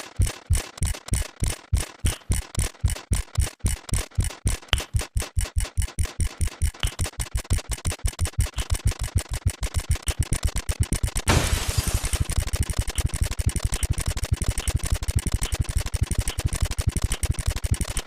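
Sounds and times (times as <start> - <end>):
electronic counter ticks: 0.0 - 11.3, 12.4 - 18.0.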